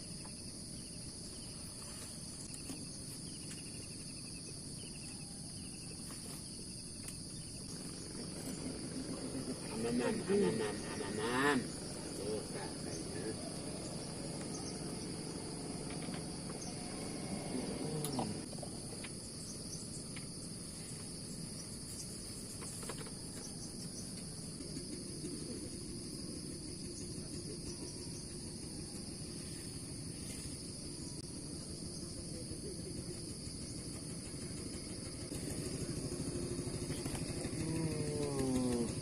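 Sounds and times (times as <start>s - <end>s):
insects chorus: 0.0s - 39.0s.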